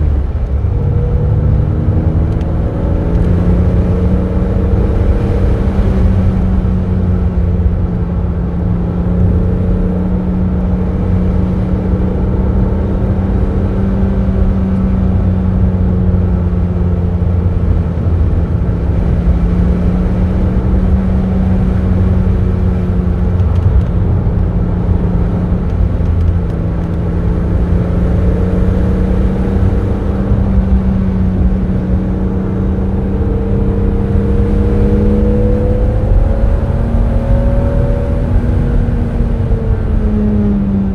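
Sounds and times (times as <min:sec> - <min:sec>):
car engine running: 0:00.0 - 0:40.9
road rumble: 0:00.0 - 0:40.9.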